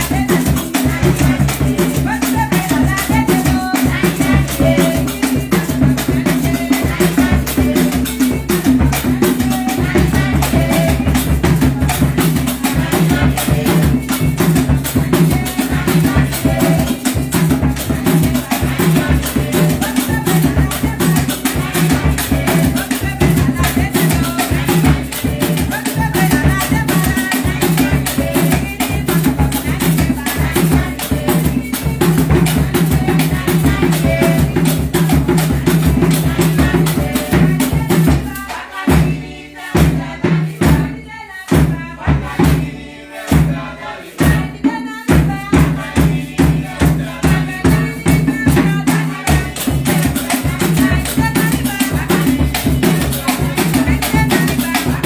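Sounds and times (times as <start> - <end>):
hand drums and rattles playing: 0.0 - 55.0
voices singing: 0.0 - 55.0.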